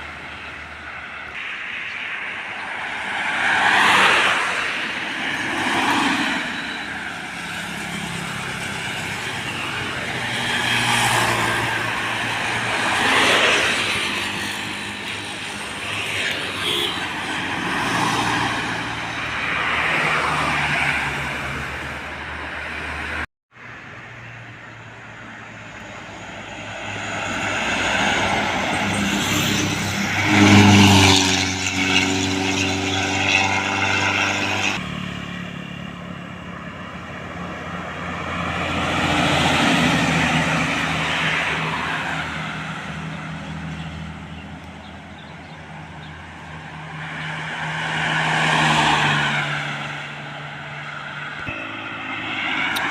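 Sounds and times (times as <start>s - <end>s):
trucks passing close by: 0.0s - 52.9s.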